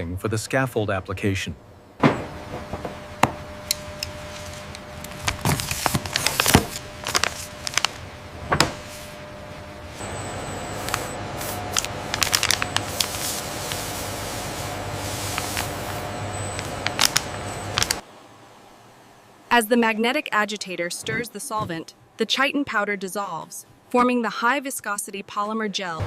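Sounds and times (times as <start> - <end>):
steady hum: 0.0 - 25.8.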